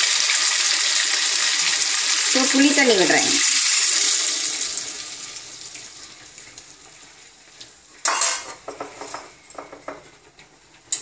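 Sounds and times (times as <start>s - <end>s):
liquid splashing and sizzling in pot: 0.0s - 11.0s.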